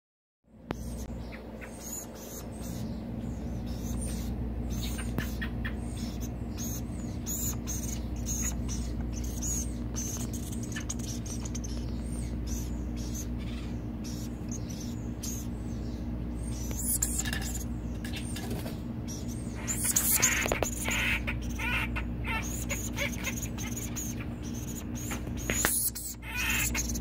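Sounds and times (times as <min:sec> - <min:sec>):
low hum: 0:00.5 - 0:27.0
woodpeckers clicking and scratching: 0:03.6 - 0:15.5, 0:16.6 - 0:27.0.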